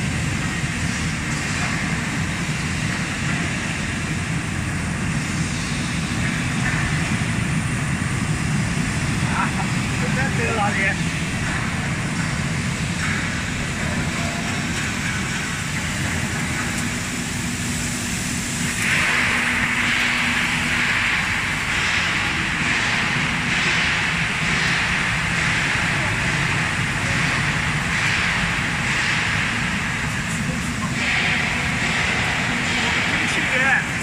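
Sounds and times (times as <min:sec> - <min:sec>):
pulsing rushing hiss: 0:00.0 - 0:34.0.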